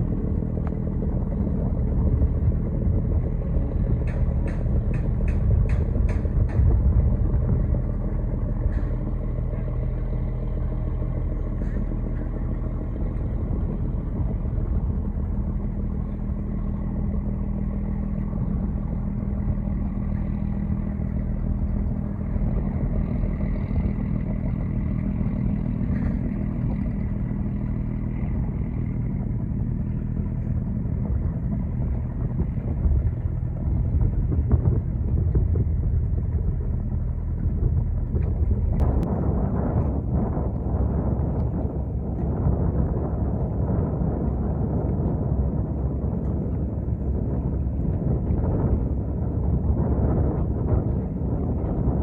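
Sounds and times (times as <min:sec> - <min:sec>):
boat engine running: 0:00.0 - 0:52.0.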